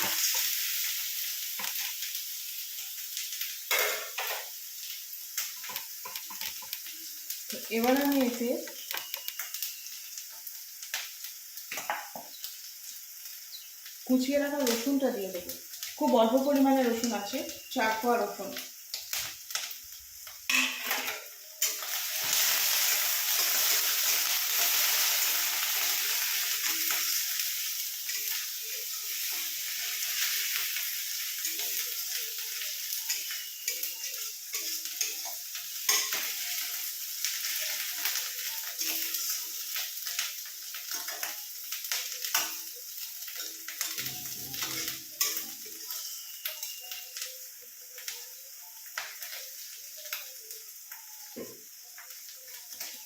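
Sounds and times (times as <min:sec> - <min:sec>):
paste sizzling in hot oil: 0:00.0 - 0:53.0.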